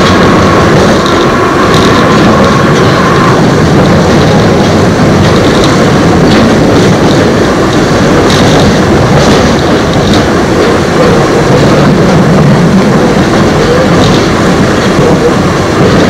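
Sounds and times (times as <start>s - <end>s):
train wheels running on rails: 0.0s - 16.0s.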